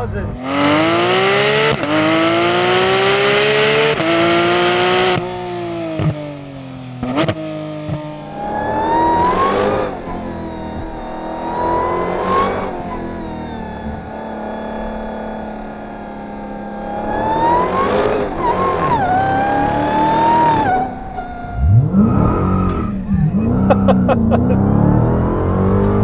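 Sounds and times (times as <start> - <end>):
sports car engine revving: 0.2 - 26.0
car accelerating with upshifts: 0.3 - 26.0.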